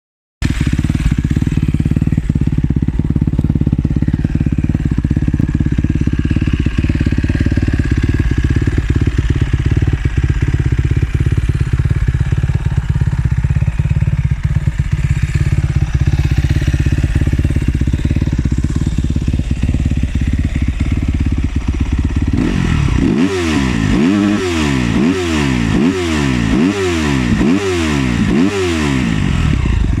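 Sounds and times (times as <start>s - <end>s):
motorcycle engine idling and revving: 0.4s - 30.0s.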